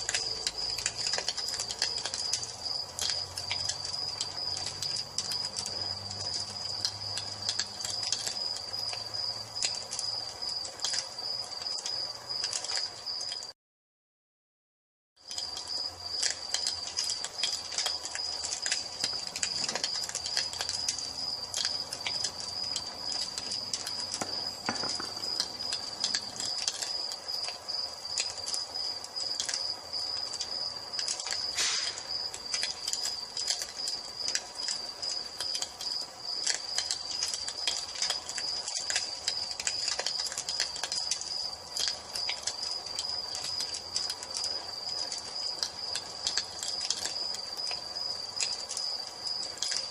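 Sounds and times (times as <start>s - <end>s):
crickets trilling: 0.0s - 13.5s, 15.2s - 49.9s
wood fire crackling and popping: 0.0s - 13.5s, 15.2s - 49.9s.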